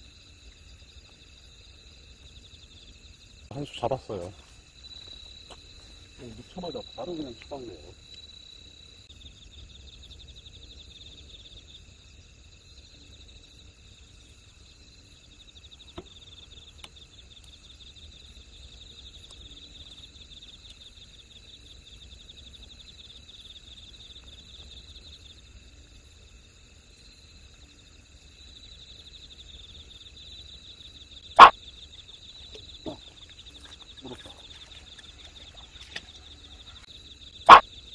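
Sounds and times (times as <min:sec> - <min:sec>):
night insects trilling: 0:00.0 - 0:37.9.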